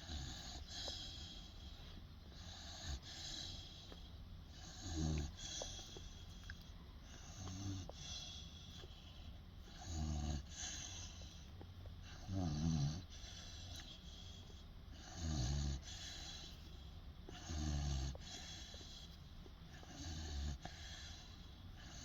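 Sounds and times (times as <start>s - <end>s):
puppy snoring: 0.0s - 22.0s.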